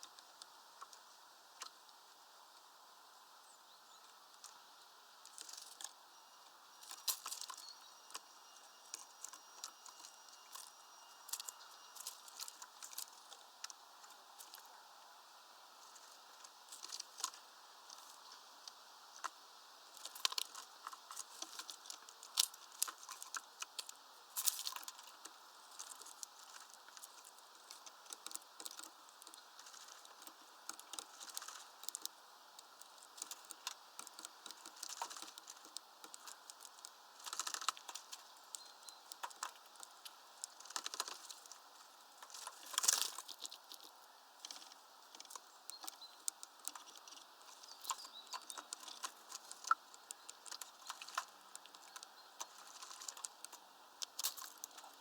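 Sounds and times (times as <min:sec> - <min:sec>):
birds pecking at feeder: 0:00.1 - 0:02.6, 0:03.9 - 0:55.0.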